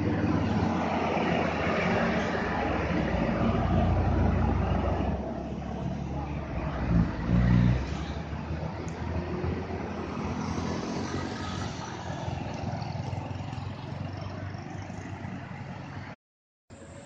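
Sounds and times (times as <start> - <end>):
heavy diesel engine drone: 0.0 - 17.0
tyre and car noise: 0.0 - 17.0.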